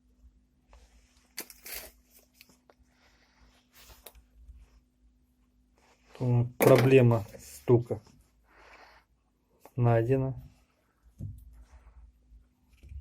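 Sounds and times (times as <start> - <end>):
faint rustling and handling: 0.1 - 13.0.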